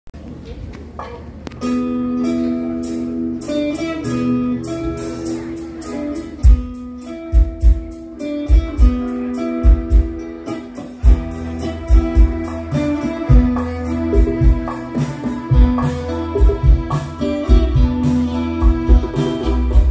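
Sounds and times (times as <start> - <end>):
live band playing instrumental: 0.2 - 19.9.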